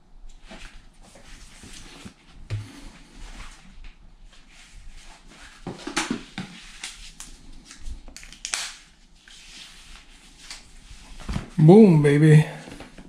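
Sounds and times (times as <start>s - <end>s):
rustling of things being handled: 0.3s - 13.0s.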